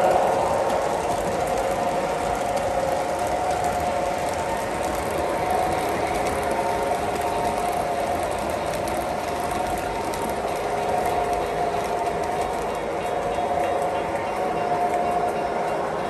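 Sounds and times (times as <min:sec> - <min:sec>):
model train running on track: 0:00.0 - 0:16.0.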